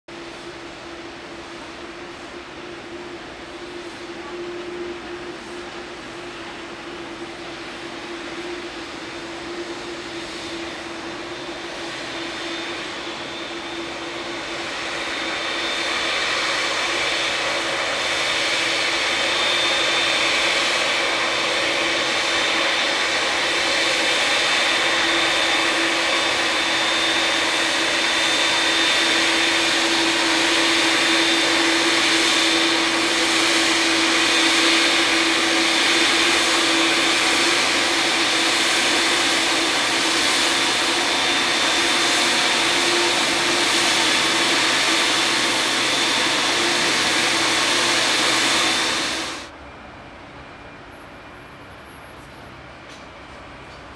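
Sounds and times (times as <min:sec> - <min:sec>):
jet engines idling: 0:00.2 - 0:53.9.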